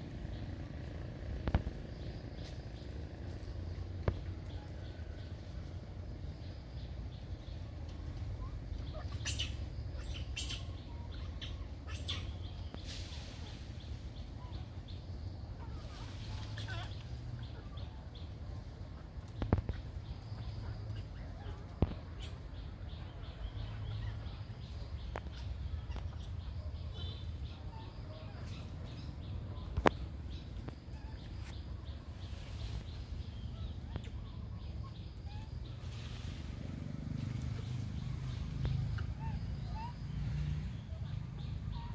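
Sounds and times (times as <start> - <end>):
faint high chirping calls: 0.0 - 41.9
steady low rumble: 0.0 - 41.9.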